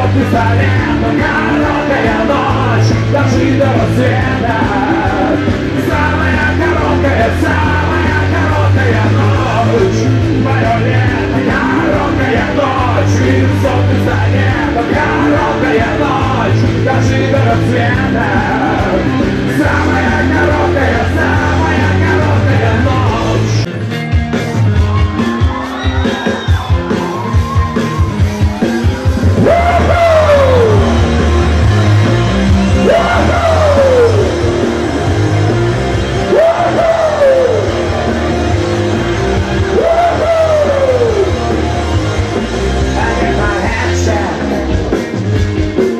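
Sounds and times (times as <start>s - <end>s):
live rock music: 0.0s - 45.9s.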